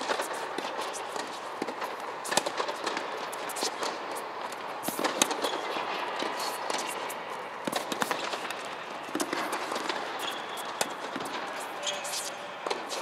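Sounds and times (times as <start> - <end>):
tennis ball bouncing: 0.0 - 11.4
racquets striking tennis ball: 0.0 - 13.0
steady background hiss: 0.0 - 13.0.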